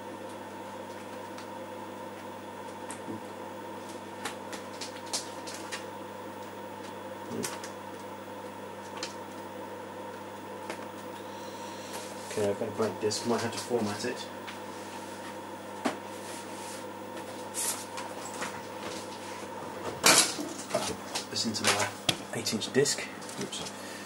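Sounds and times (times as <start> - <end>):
computer equipment hum: 0.0 - 24.0.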